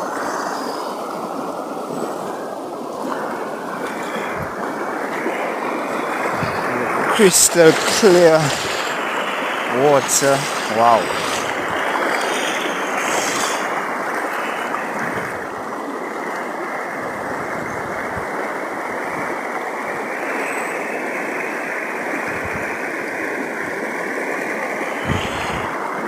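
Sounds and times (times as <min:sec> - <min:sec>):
stream rushing and burbling: 0:00.0 - 0:26.0.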